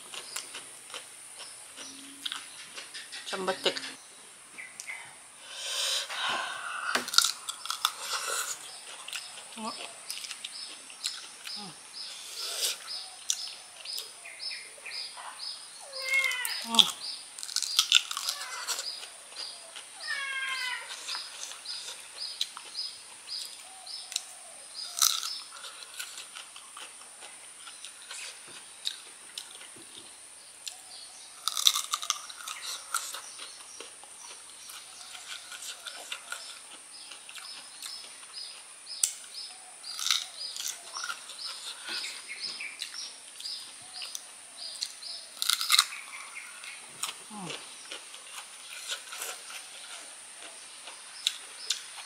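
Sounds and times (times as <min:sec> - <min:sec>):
crunchy fruit biting and chewing: 0:00.0 - 0:03.2, 0:06.0 - 0:14.4, 0:16.5 - 0:20.0, 0:20.8 - 0:30.0, 0:30.6 - 0:52.0.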